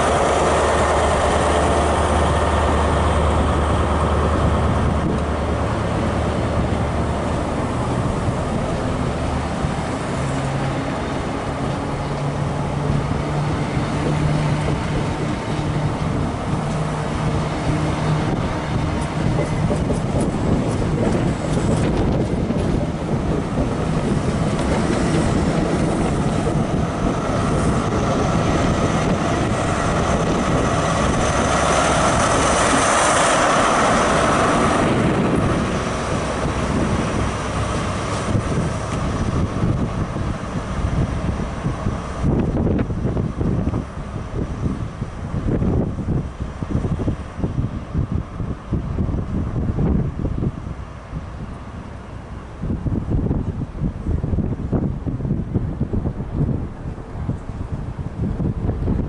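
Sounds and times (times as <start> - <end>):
diesel engine drone: 0.0 - 59.0
train coaches rolling past: 0.0 - 59.0.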